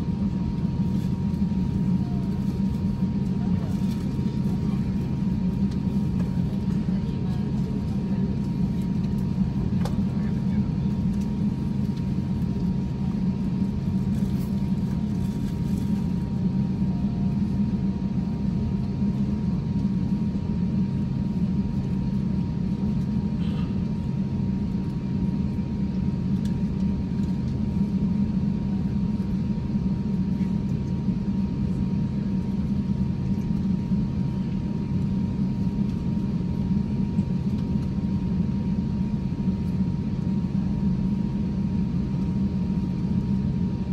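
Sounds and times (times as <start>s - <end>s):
aircraft cabin low rumble: 0.0s - 43.9s
faint high hum: 0.0s - 43.9s.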